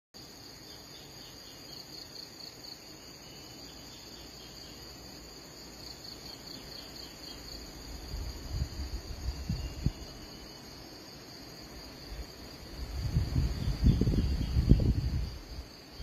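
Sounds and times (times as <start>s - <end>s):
insect chorus buzzing: 0.2s - 16.0s.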